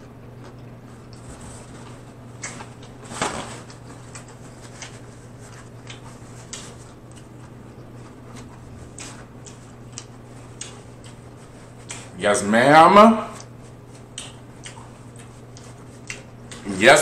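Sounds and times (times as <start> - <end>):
low hum: 0.0 - 16.8
person chewing crunchy food: 0.2 - 12.2, 13.4 - 16.7.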